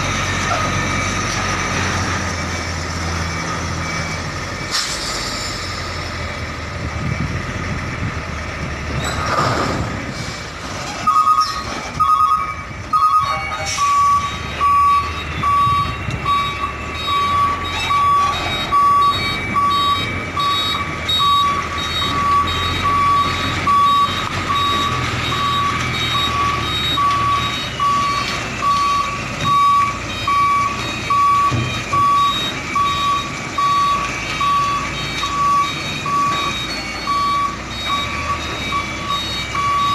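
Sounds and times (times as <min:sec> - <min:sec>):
truck engine rumble: 0:00.0 - 0:39.9
reversing alarm beeping: 0:00.2 - 0:04.8, 0:11.0 - 0:39.9.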